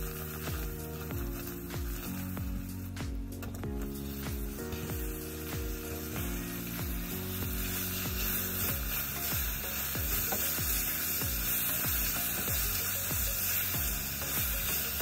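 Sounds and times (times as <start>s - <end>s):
background music with steady beat: 0.0s - 15.0s
food sizzling in a pan: 0.0s - 15.0s.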